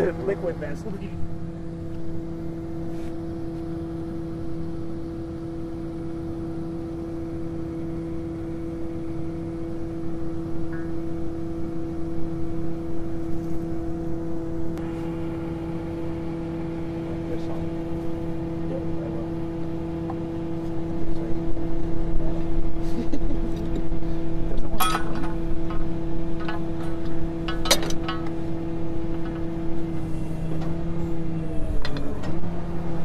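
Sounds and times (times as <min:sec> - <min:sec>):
engine running with steady hum: 0:00.0 - 0:33.0.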